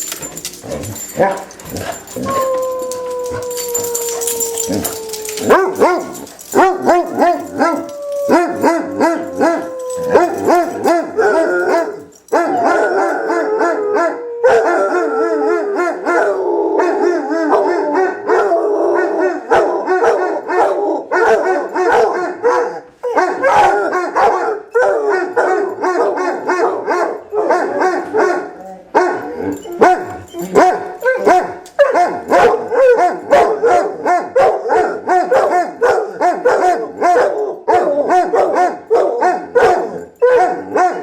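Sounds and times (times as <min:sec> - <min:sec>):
dogs howling and baying: 0:00.0 - 0:41.0.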